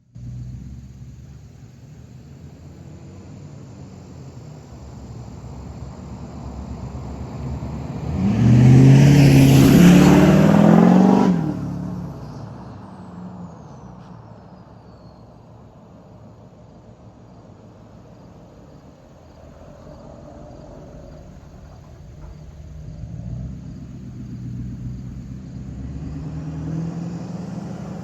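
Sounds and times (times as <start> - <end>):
diesel truck driving past: 0.0 - 28.0.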